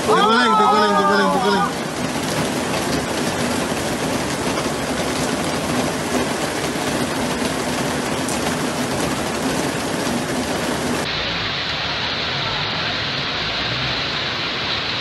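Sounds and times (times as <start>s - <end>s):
floodwater rushing: 0.0s - 15.0s
heavy rain: 0.0s - 15.0s.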